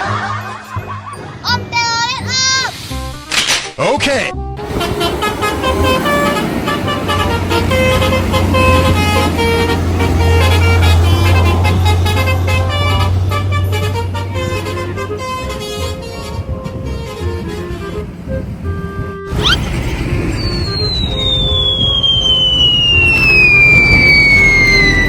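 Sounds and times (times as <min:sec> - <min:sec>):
bus engine rumble: 0:04.6 - 0:25.0
bus horn playing a tune: 0:04.6 - 0:25.0.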